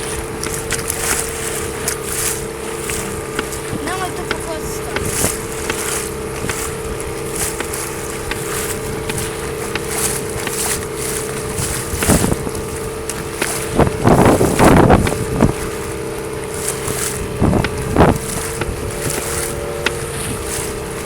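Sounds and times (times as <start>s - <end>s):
boat engine humming: 0.0s - 21.0s
wind noise on microphone: 0.0s - 21.0s.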